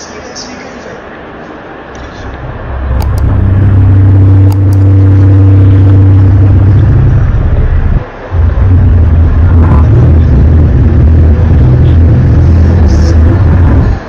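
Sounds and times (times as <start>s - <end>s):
low moaning drone: 2.0s - 14.0s.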